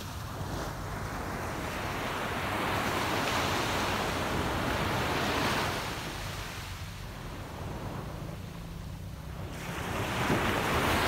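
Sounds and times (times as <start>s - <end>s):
small waves breaking on beach: 0.0s - 11.0s.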